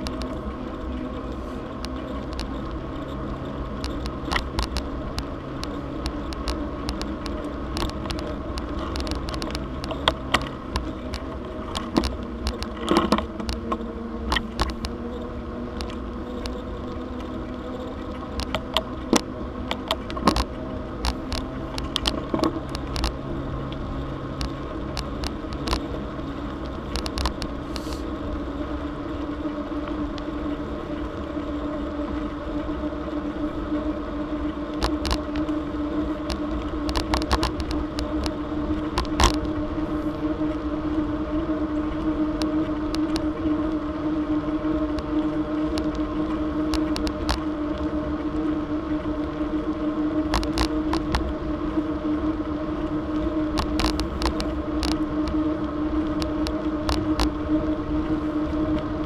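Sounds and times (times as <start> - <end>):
bicycle tyres rumbling on pavement: 0.0 - 59.0
bike rattling over bumps: 0.0 - 59.0.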